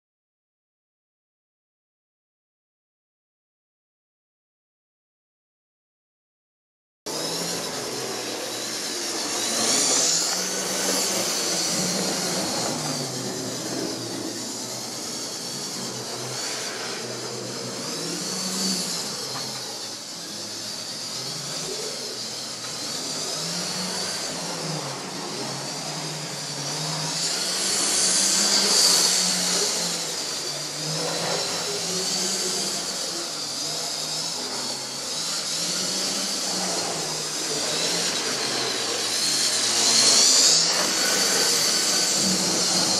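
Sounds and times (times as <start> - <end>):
model train motors whining: 7.1 - 42.9.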